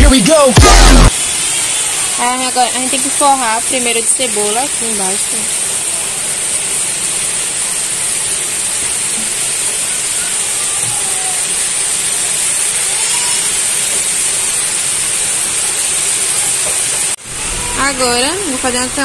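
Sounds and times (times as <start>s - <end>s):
loud steady hiss: 0.0s - 19.0s.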